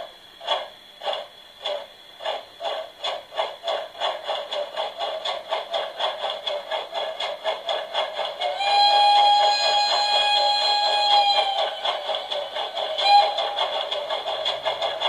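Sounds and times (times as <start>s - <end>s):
model locomotive steam chuffs: 0.0s - 15.0s.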